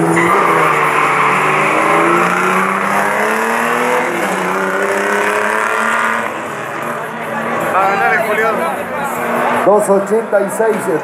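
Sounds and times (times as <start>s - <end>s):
cars accelerating hard: 0.0s - 11.0s.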